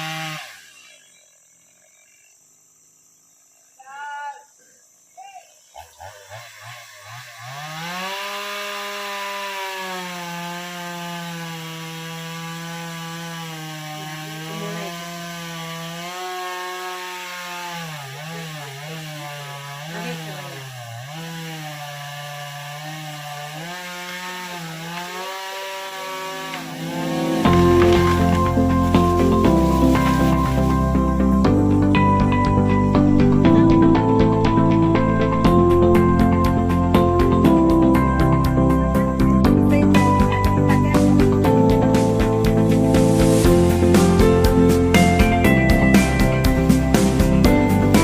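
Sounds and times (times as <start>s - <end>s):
chainsaw cutting wood: 0.0s - 2.2s, 5.7s - 48.0s.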